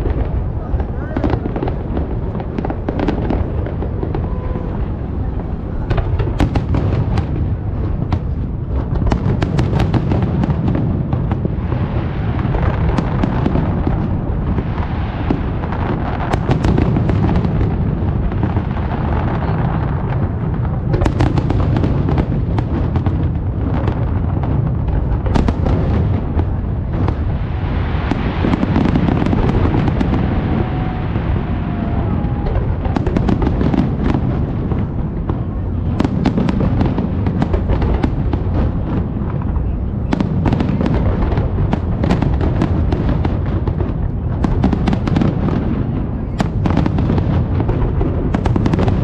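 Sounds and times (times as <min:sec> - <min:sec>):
fireworks crackling: 0:00.0 - 0:49.0.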